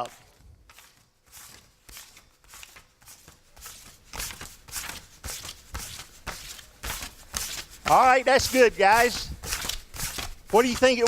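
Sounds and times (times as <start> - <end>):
banknotes being counted by hand: 0.6 - 11.0.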